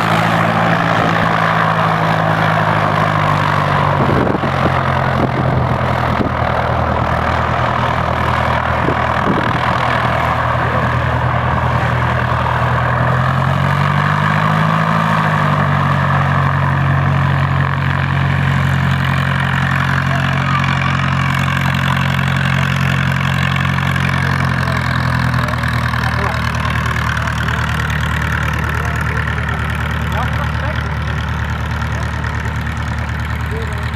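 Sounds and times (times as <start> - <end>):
propeller plane engine idling: 0.0 - 33.9.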